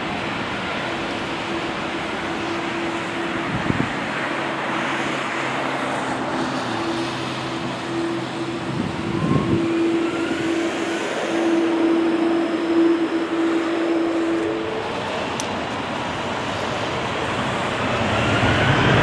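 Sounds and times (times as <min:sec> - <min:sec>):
jet engines at taxi power: 0:00.0 - 0:19.0.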